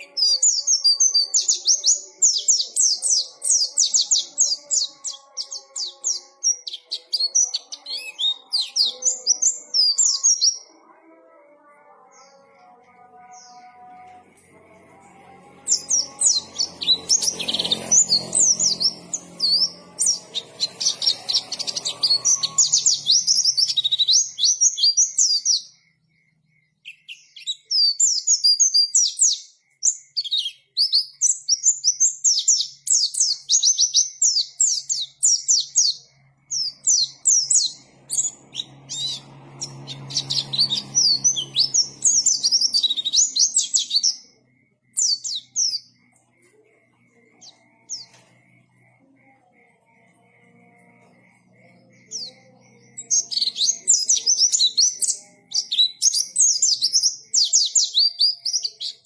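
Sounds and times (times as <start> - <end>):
bird twittering song: 0.0 - 11.0, 15.6 - 59.0.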